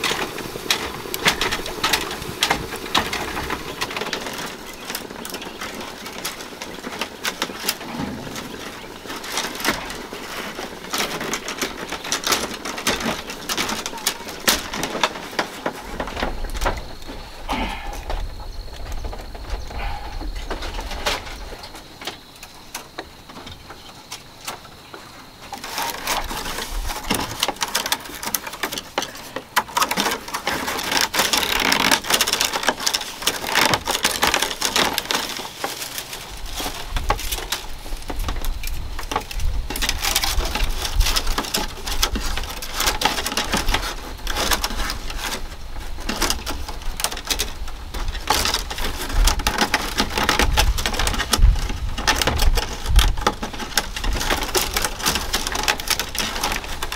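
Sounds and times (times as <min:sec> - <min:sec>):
bamboo strips crackling and clicking: 0:00.0 - 0:56.9.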